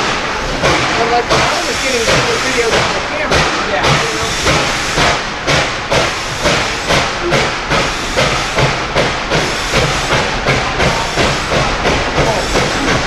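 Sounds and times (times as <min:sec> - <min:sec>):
steam hissing: 0:00.0 - 0:13.0
steam locomotive chuffing: 0:00.0 - 0:13.0.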